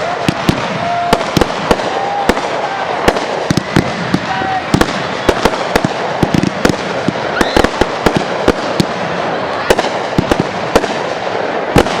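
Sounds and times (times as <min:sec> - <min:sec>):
fireworks bangs: 0:00.0 - 0:12.0
fireworks crackle: 0:00.0 - 0:12.0.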